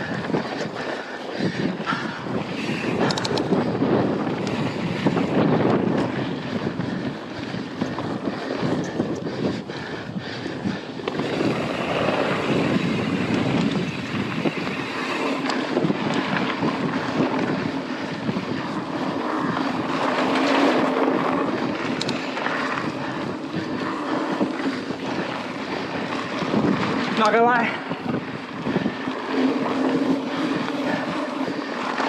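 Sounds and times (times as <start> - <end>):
bike clicks and knocks: 0.0 - 9.5, 10.9 - 27.6
bike tyres rolling over dirt: 0.0 - 32.0
wind on microphone: 0.0 - 32.0.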